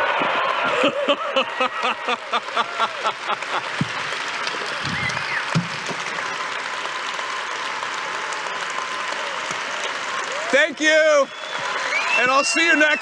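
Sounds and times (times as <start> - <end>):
audience applauding and cheering: 0.0 - 13.0.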